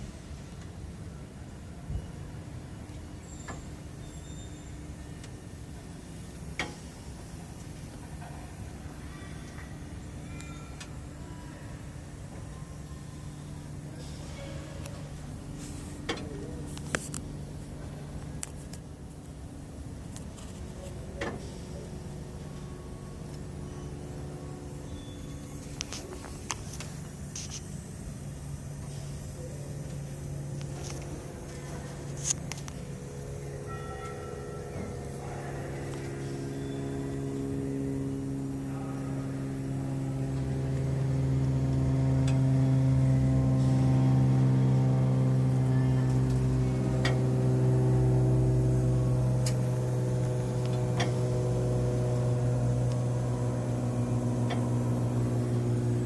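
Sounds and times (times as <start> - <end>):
truck diesel engine humming: 0.0 - 56.0.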